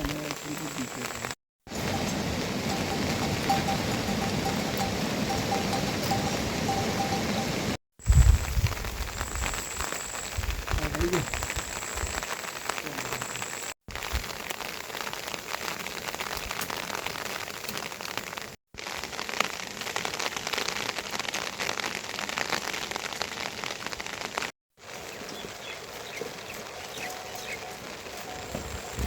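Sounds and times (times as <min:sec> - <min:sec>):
rain on hard surfaces: 0:00.0 - 0:29.0.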